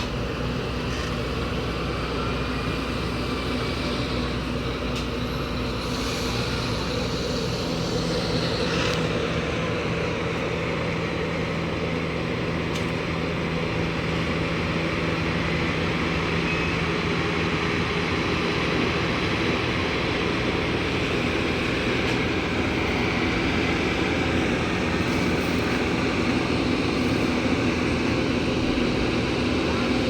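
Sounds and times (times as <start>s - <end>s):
heavy machinery engine running: 0.0s - 30.0s.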